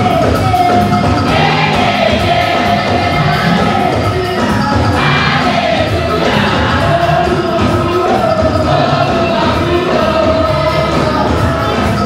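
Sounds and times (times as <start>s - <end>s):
rhythmic accompaniment: 0.0s - 12.0s
congregation and choir singing hymn: 1.2s - 12.0s.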